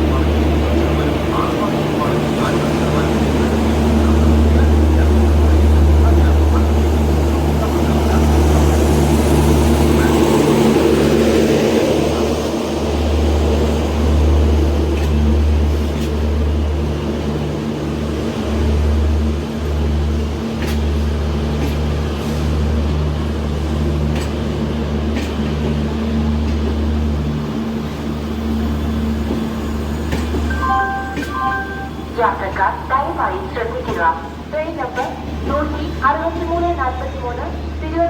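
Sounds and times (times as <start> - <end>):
electric locomotive humming: 0.0 - 38.0.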